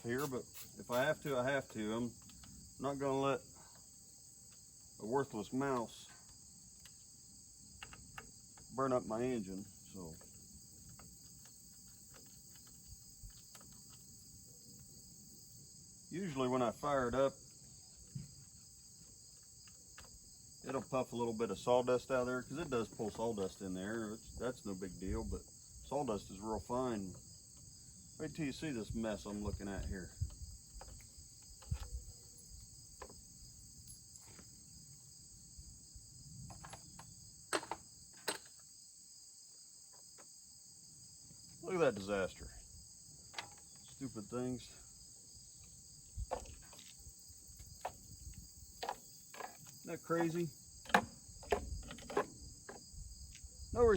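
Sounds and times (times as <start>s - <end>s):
crickets chirring: 0.0s - 53.9s
insects chorus: 0.0s - 53.9s.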